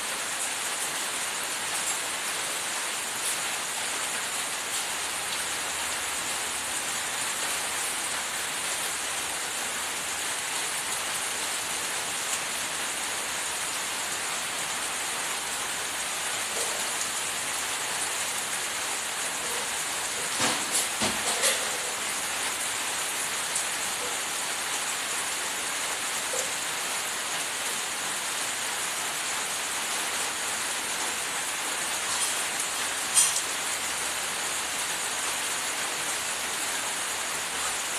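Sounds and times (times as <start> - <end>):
rain-like hiss: 0.0 - 37.9.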